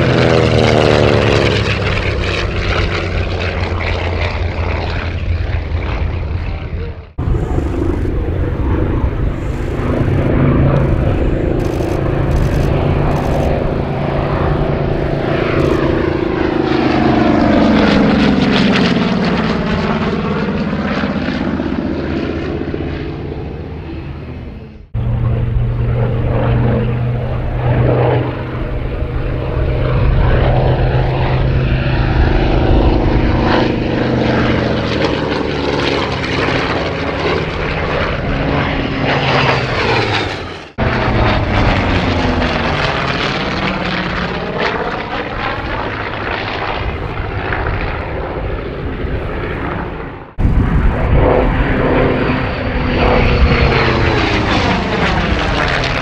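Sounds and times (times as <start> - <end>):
radial engine aircraft passing: 0.0 - 56.0.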